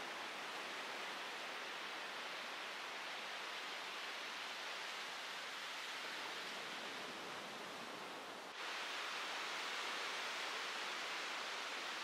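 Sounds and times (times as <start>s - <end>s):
surf washing up beach: 0.0s - 12.0s.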